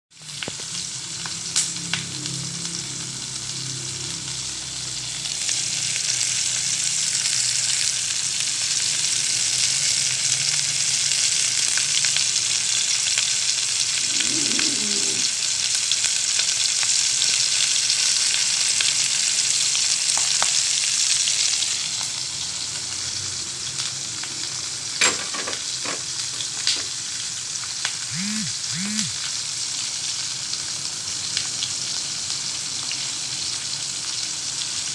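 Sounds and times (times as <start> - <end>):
meat sizzling in oil: 0.2 - 28.2, 29.2 - 34.9.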